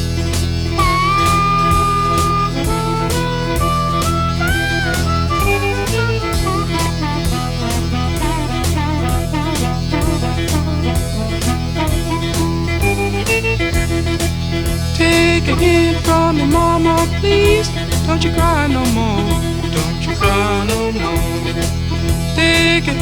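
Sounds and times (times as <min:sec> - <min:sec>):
blues-rock music: 0:00.0 - 0:23.0.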